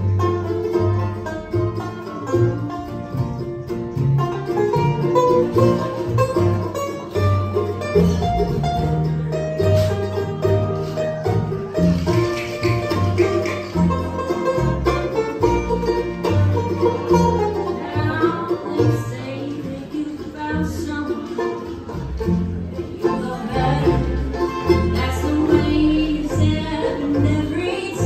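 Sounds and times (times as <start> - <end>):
banjo picking: 0.0 - 28.0
bluegrass band playing: 0.0 - 28.0
low bass notes: 0.0 - 28.0.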